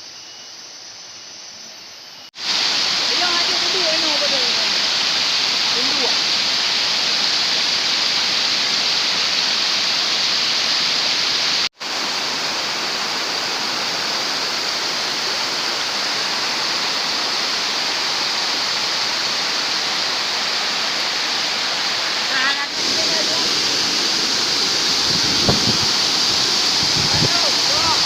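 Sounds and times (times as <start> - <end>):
waterfall rushing: 2.4 - 28.0.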